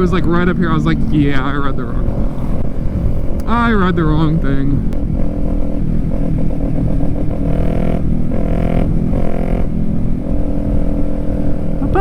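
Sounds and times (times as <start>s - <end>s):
motorcycle engine running: 0.0s - 12.0s
wind rumble on microphone: 0.0s - 12.0s.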